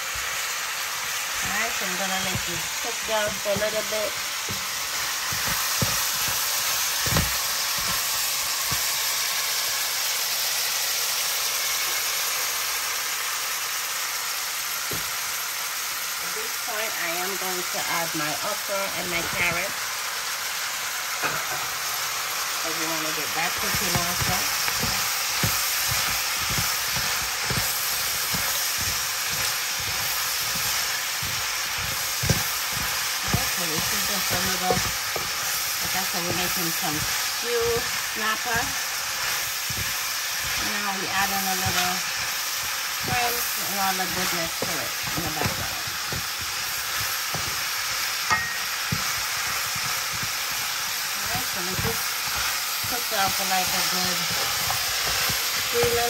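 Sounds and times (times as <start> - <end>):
shrimp sizzling in stew sauce: 0.0 - 56.0.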